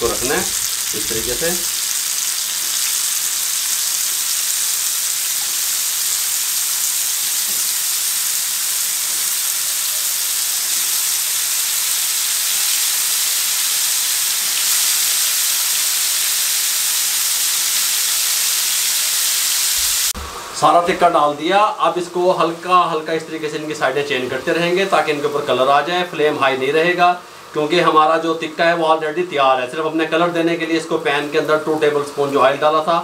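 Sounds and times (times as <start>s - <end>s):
meat sizzling in hot oil: 0.0s - 33.0s.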